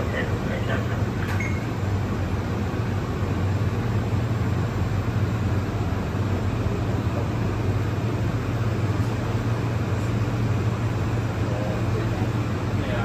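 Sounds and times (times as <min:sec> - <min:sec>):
train interior rumble and hum: 0:00.0 - 0:13.0.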